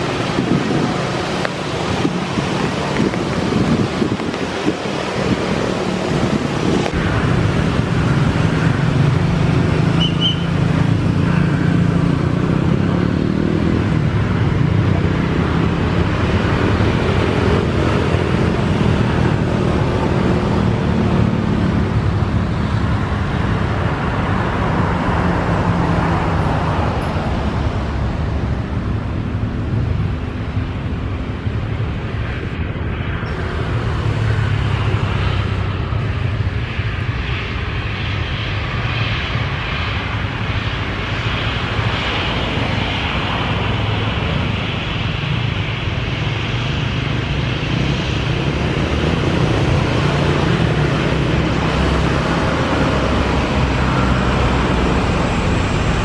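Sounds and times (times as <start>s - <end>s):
jet engines taxiing: 0.0s - 56.0s.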